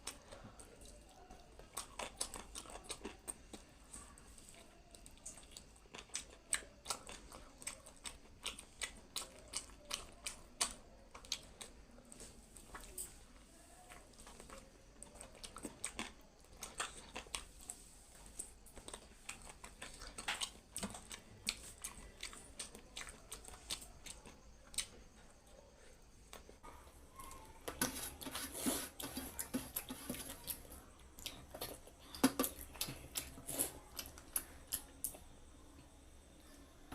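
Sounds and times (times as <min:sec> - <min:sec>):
chewing: 0:00.0 - 0:36.9.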